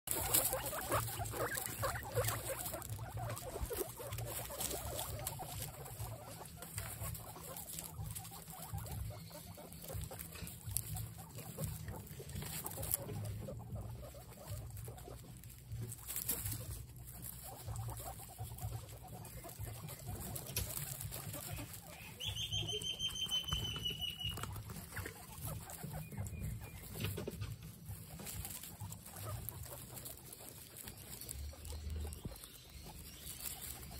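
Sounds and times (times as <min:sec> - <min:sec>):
guinea pigs chattering: 0:00.0 - 0:33.9
rustling on straw: 0:00.0 - 0:33.9
guinea pig whistling squeal: 0:00.1 - 0:33.9.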